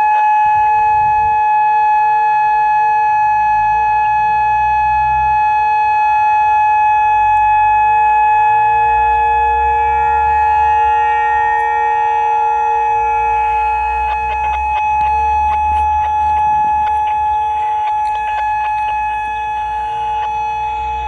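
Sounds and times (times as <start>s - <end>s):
steady warning siren tone: 0.0s - 21.0s.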